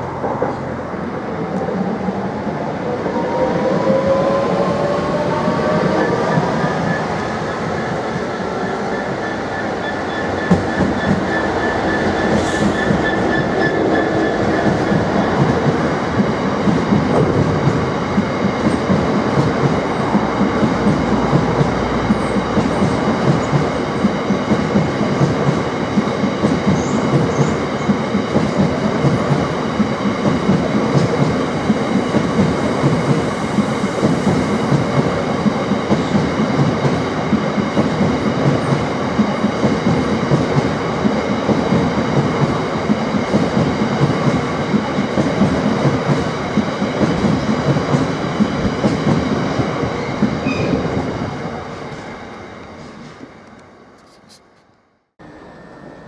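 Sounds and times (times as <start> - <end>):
freight train rumbling past: 0.0 - 53.9
diesel locomotive engine hum: 0.0 - 54.3.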